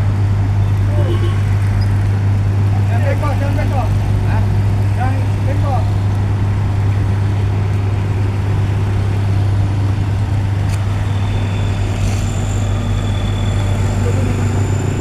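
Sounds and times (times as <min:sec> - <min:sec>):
large engine humming: 0:00.0 - 0:15.0.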